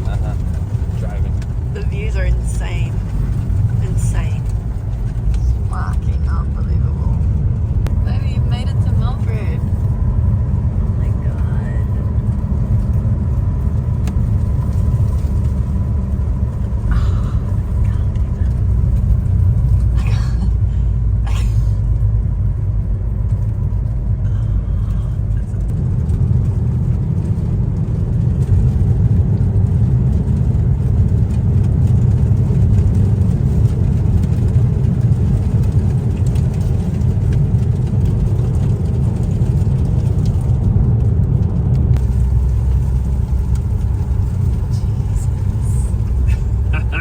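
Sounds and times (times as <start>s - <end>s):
car engine and tyre rumble: 0.0s - 47.0s.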